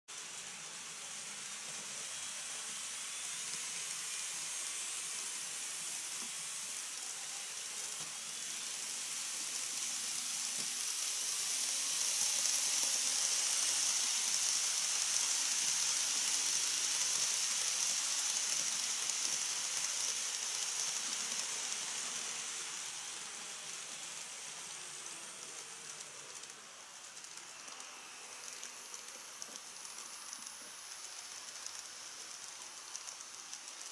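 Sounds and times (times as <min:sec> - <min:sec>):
model train running on track: 0:00.1 - 0:33.9.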